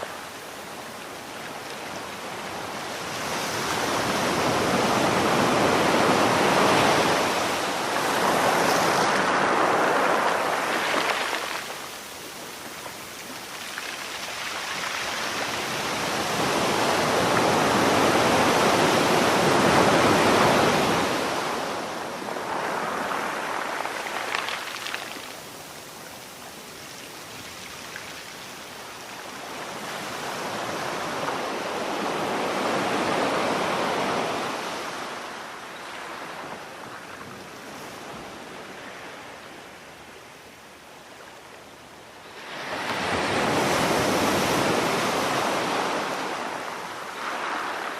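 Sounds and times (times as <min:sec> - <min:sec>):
sea waves rushing: 0:00.0 - 0:36.8, 0:42.3 - 0:47.9.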